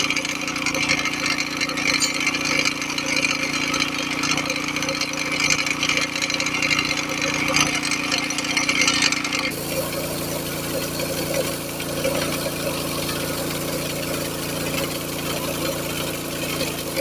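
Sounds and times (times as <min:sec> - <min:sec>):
engine humming: 0:00.0 - 0:17.0
saw cutting rail: 0:00.0 - 0:17.0.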